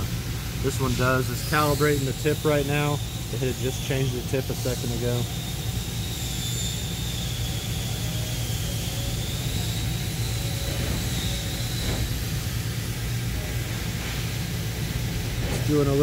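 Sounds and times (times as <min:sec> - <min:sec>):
faint high whine: 0:00.0 - 0:16.0
laser cutter humming: 0:00.0 - 0:16.0.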